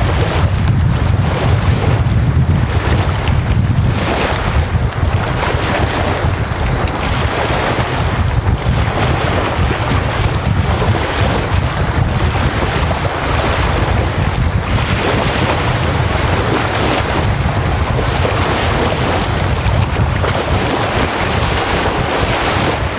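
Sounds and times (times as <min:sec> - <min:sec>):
waves washing up shore: 0:00.0 - 0:22.9
wind hitting microphone: 0:00.0 - 0:22.9.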